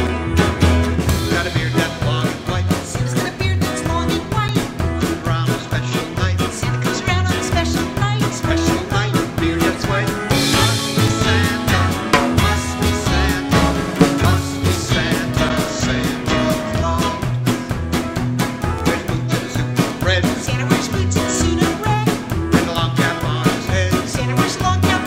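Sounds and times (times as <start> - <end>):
accordion: 0.0 - 25.0
band playing upbeat song: 0.0 - 25.0.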